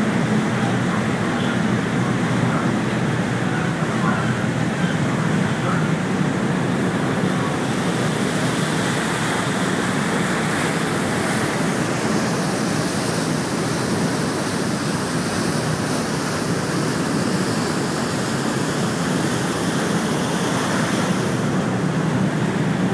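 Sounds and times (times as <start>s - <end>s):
churning water from ferry wake: 0.0s - 22.9s.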